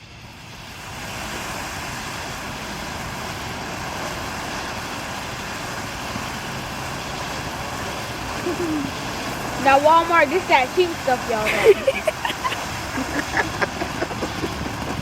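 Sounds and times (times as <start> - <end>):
car running and moving: 0.9 - 15.0.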